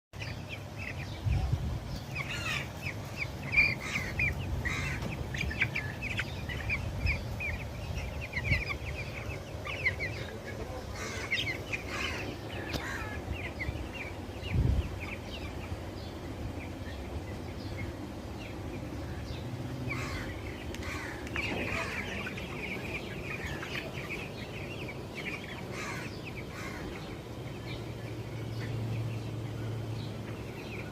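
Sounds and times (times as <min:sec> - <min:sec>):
chickens cheeping: 0:00.2 - 0:30.9.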